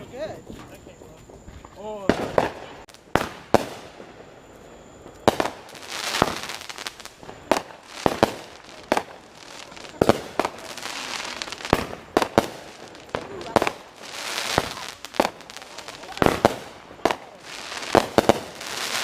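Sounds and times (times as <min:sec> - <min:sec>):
fireworks bangs: 0:00.0 - 0:19.0
fireworks crackling and hissing: 0:00.0 - 0:19.0.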